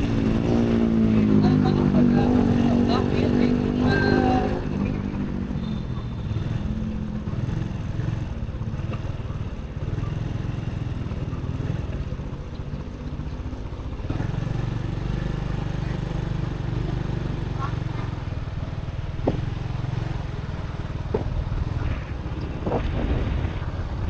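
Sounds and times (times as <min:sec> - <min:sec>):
motorbike engine running: 0:00.0 - 0:24.0
road noise: 0:00.0 - 0:24.0.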